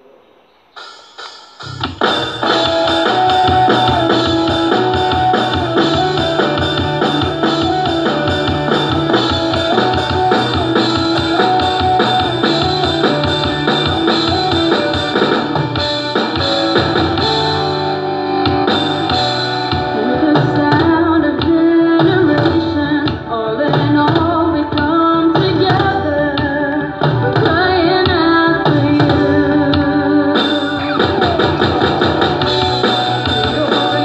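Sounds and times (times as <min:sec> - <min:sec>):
drum hits: 0:00.8 - 0:17.9, 0:18.5 - 0:34.0
rock backing track with guitar: 0:00.8 - 0:34.0.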